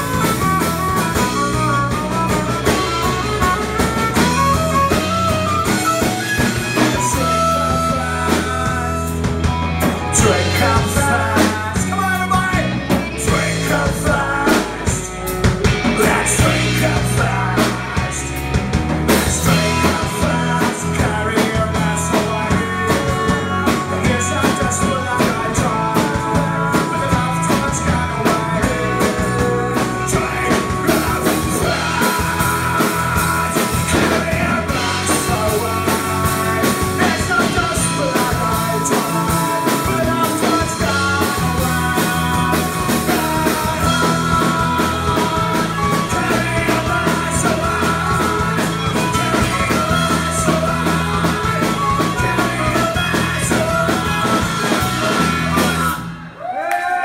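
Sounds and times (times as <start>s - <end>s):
live rock band playing: 0.0s - 56.6s.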